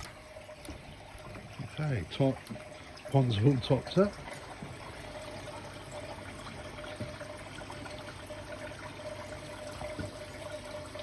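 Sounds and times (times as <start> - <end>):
water pouring into a pond: 0.0 - 11.0.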